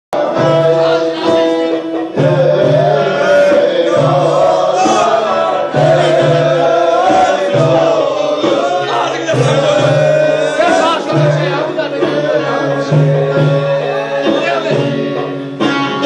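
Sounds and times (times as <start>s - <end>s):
folk dance music: 0.1s - 16.0s
person singing: 0.1s - 16.0s.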